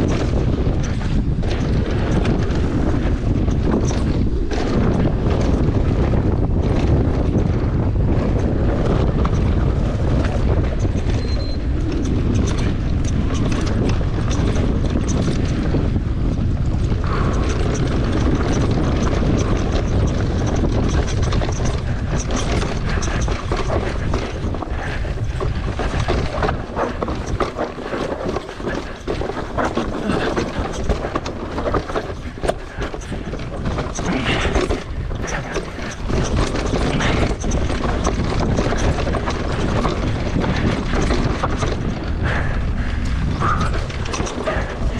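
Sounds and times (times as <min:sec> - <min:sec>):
bike rattling over rocks: 0:00.0 - 0:44.9
bike tyre noise: 0:00.0 - 0:44.9
wind buffeting microphone: 0:00.0 - 0:44.9.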